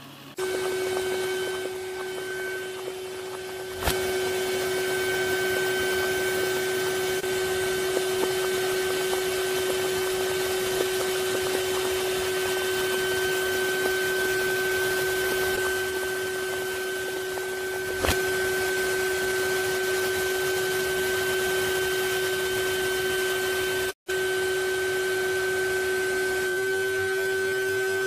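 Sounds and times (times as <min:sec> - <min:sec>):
vacuum cleaner whine: 0:00.0 - 0:28.0.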